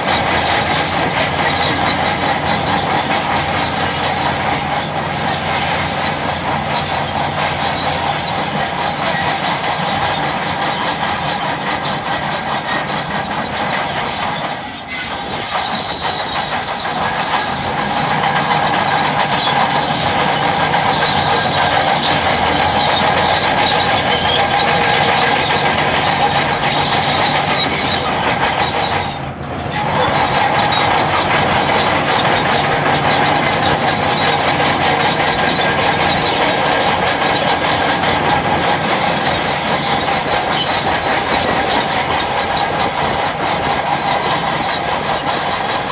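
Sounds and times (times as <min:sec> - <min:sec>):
bulldozer engine running: 0:00.0 - 0:45.9
steel tracks clattering: 0:00.0 - 0:45.9.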